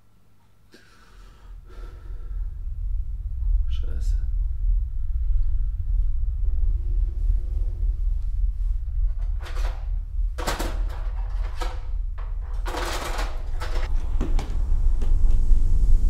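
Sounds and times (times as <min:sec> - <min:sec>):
steady low drone: 0:00.0 - 0:16.0.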